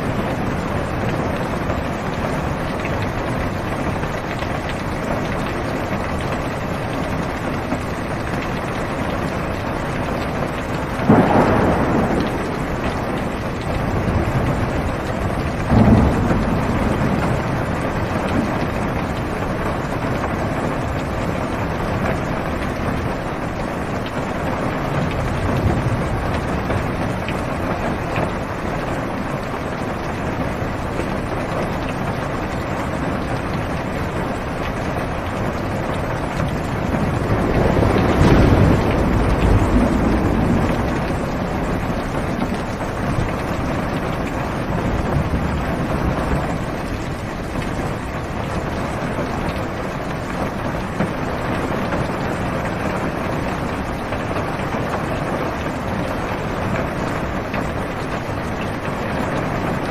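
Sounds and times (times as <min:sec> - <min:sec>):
thunder clap: 0:00.0 - 0:30.0, 0:33.4 - 0:57.8
rumbling thunder: 0:00.0 - 0:58.5
rain on car roof: 0:00.0 - 0:59.9.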